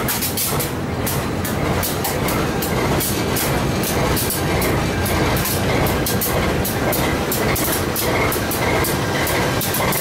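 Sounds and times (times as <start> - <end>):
train carriages rolling past: 0.0 - 10.0
wheels clattering on rails: 0.0 - 10.0.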